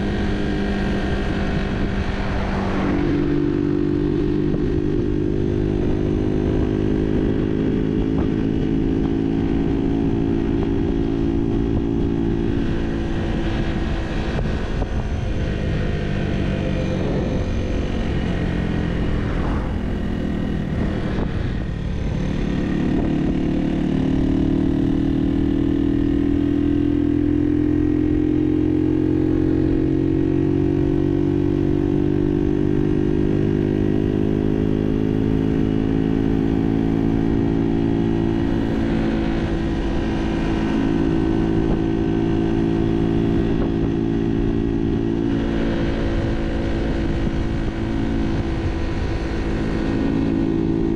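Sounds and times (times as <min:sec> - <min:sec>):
moped engine: 0:00.0 - 0:50.9.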